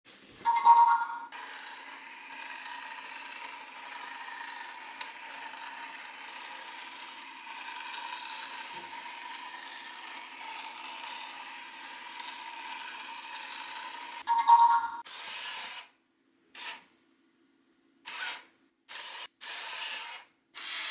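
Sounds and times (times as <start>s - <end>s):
motor and gears whirring: 0.7s - 15.9s, 18.1s - 20.9s.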